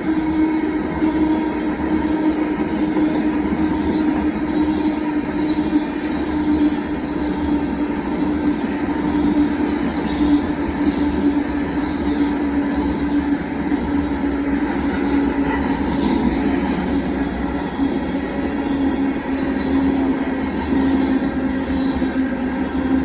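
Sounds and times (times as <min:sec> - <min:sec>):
rail cars rumbling: 0:00.0 - 0:23.0
high wheel squeals: 0:03.2 - 0:22.9.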